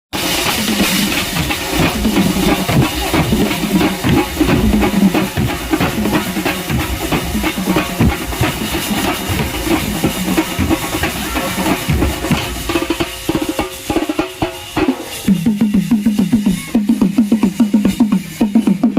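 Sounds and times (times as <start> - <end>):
hand drums fast rhythm: 0.1 - 18.9.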